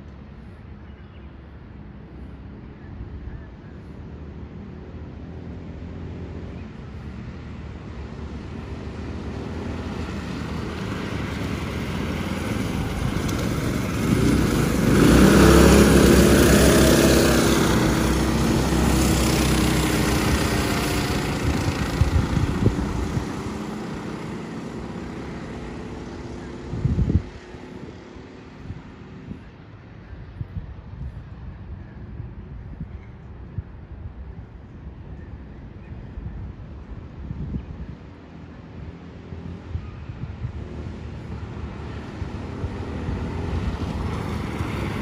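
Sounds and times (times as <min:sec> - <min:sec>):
go-kart engines passing: 0:03.6 - 0:32.5, 0:35.8 - 0:45.0.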